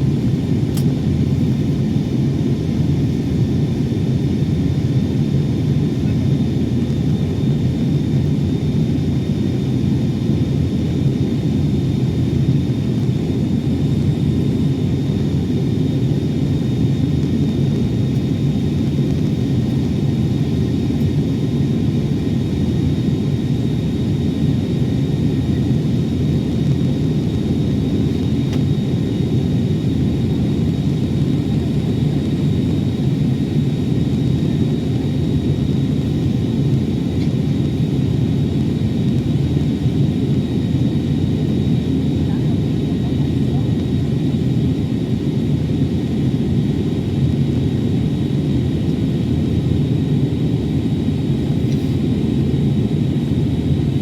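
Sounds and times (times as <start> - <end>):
jet engines rumbling in flight: 0.0 - 54.0.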